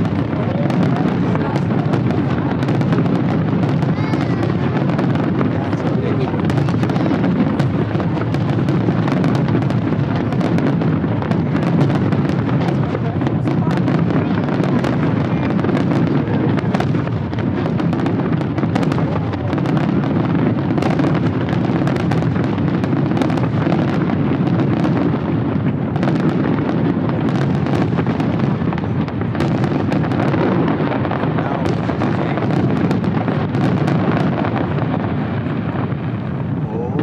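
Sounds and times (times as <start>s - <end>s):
fireworks barrage: 0.0s - 37.0s.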